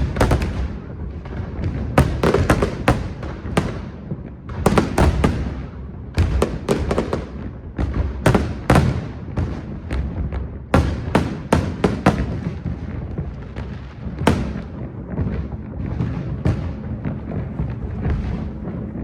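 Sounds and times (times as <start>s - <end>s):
distant explosions rumbling: 0.0s - 19.0s
fireworks bangs: 0.0s - 19.0s.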